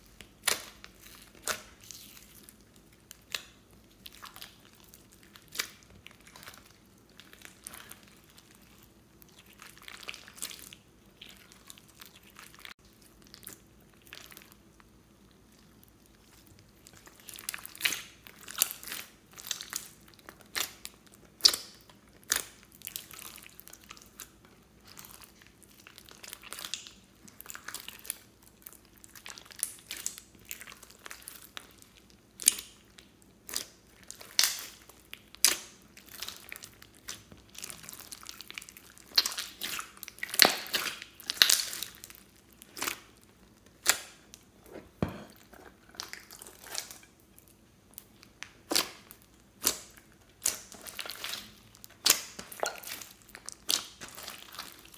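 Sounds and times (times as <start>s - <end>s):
slime squeezed popping and crackling: 0.1s - 14.7s, 16.1s - 44.4s, 45.7s - 54.9s.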